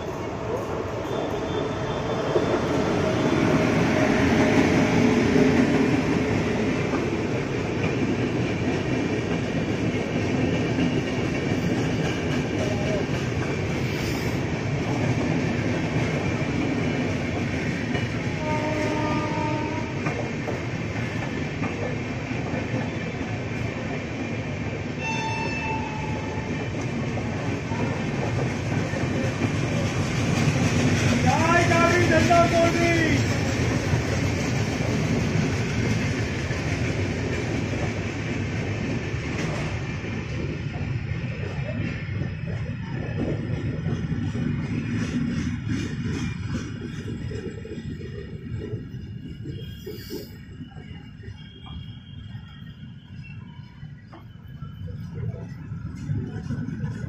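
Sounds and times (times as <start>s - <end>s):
train coaches rumbling: 0.0s - 57.0s.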